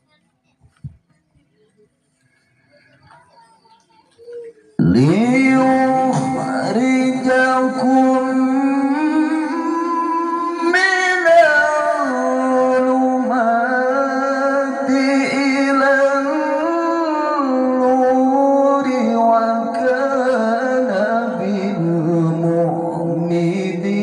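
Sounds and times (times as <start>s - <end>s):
man reciting melodically over loudspeaker: 4.6s - 24.0s.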